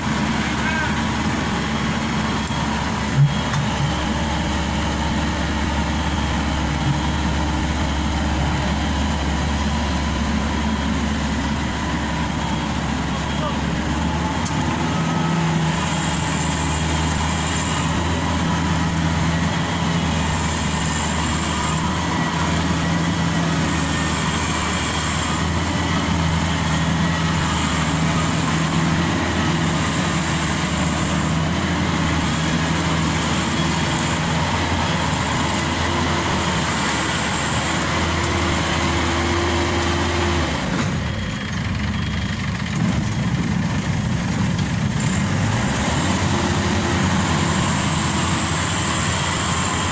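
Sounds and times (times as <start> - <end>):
combine harvester diesel engine: 0.0 - 49.9.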